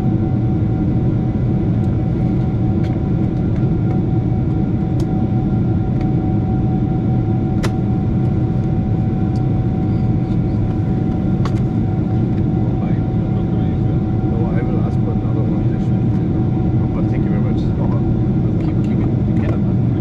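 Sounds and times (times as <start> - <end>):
airplane cabin engine rumble: 0.0 - 20.0
steady hum: 0.0 - 20.0.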